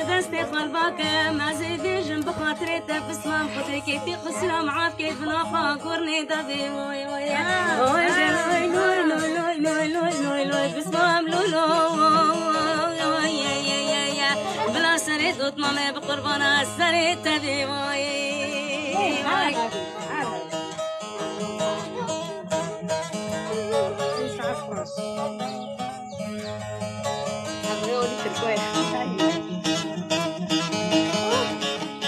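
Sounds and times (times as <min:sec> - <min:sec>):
woman singing folk melody: 0:00.0 - 0:32.0.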